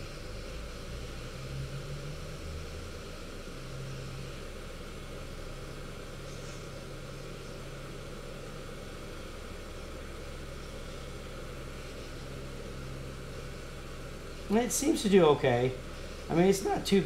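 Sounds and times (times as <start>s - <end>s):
heat gun fan blowing: 0.0s - 17.0s.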